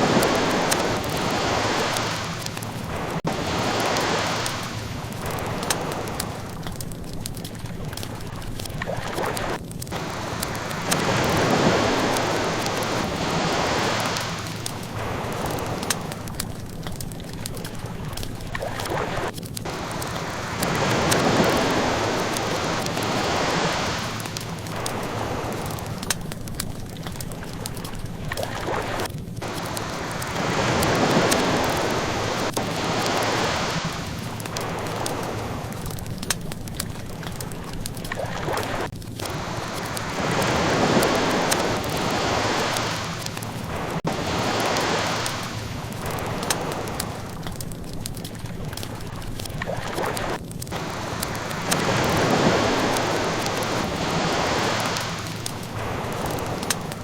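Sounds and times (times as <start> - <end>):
ocean waves washing in: 0.0 - 57.0
wood fire crackling: 0.0 - 57.0.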